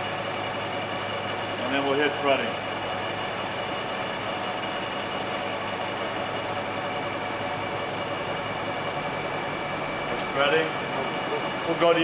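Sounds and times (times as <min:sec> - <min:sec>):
lathe humming with gear whine: 0:00.0 - 0:12.0.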